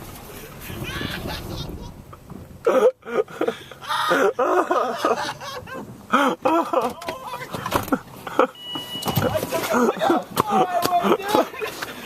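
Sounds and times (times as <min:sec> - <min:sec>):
man laughing hard: 0:00.7 - 0:02.0, 0:02.6 - 0:08.6, 0:09.2 - 0:11.8.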